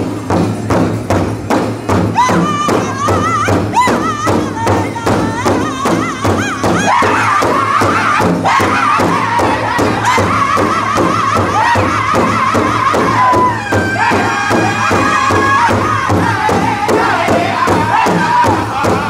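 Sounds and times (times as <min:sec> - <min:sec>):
large drum beats: 0:00.0 - 0:19.0
group singing high-pitched: 0:02.2 - 0:19.0.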